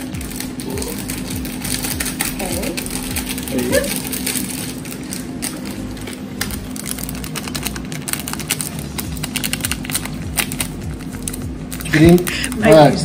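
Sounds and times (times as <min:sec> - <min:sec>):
plastic sachet crinkling: 0:00.0 - 0:13.0.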